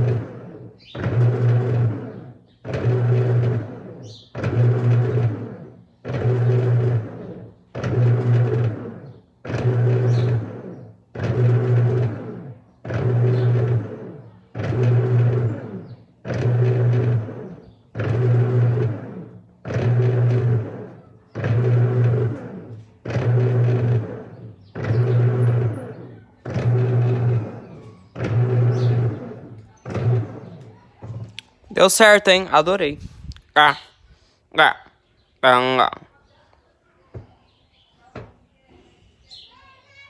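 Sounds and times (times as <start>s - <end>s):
washing machine agitating: 0.0s - 32.3s.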